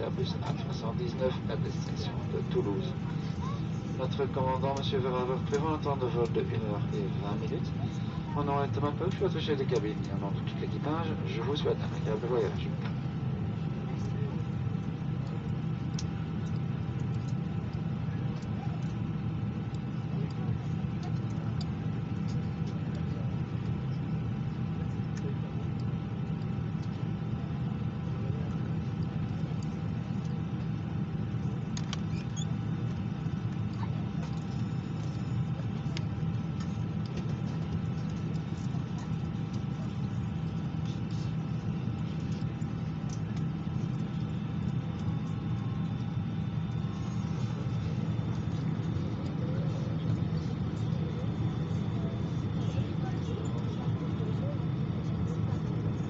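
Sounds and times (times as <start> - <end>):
airplane cabin hum: 0.0 - 56.0
faint steady whines: 0.0 - 56.0.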